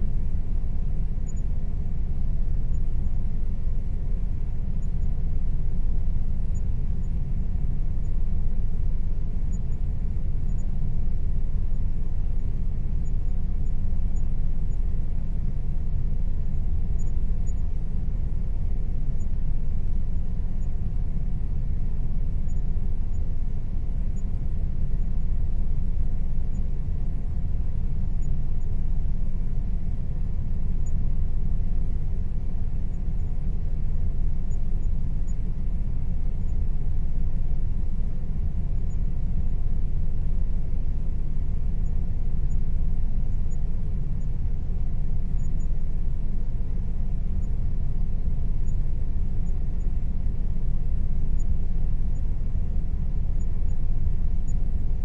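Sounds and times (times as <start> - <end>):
air conditioner running: 0.0 - 55.0.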